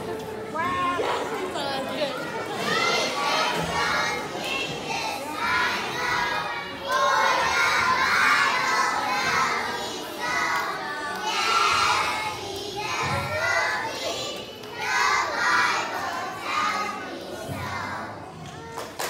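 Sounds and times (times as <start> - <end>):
children singing together: 2.2 - 18.3.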